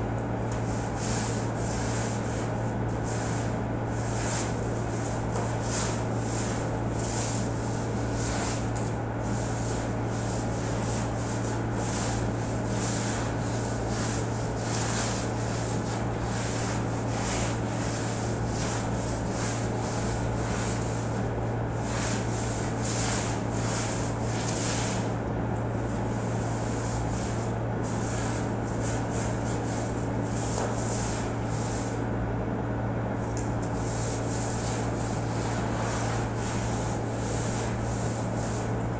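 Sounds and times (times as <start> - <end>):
broom sweeping floor: 0.0 - 32.2, 33.2 - 38.9
air conditioner humming: 0.0 - 38.9.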